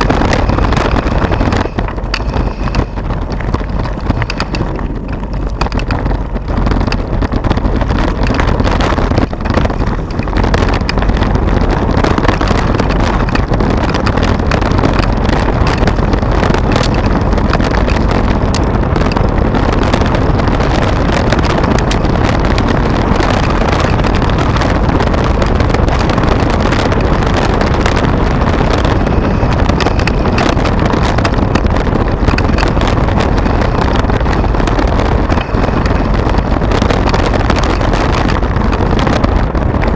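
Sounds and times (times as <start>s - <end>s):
bike clicks and rattles: 0.0s - 39.9s
bike tyres rolling on gravel: 0.0s - 39.9s
wind buffeting microphone: 0.0s - 39.9s.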